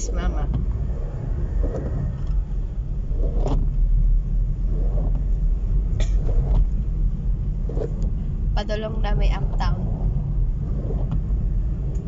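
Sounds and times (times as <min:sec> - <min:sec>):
low rumble of moving vehicle: 0:00.0 - 0:12.0.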